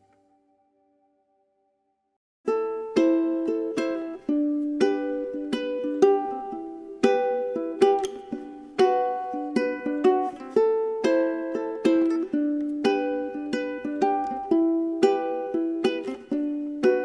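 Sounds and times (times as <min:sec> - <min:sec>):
plucked guitar piece: 0:02.5 - 0:17.0.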